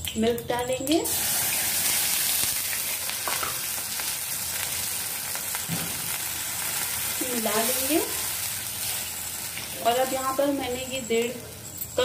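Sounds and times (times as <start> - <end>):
milk sizzling in hot fat: 0.1 - 12.0.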